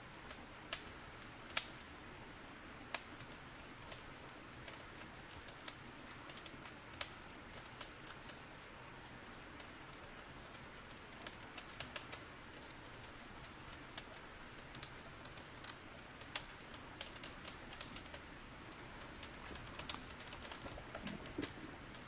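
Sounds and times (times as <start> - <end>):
firewood crackling and popping: 0.0 - 22.0
soft fire hiss: 0.0 - 22.0.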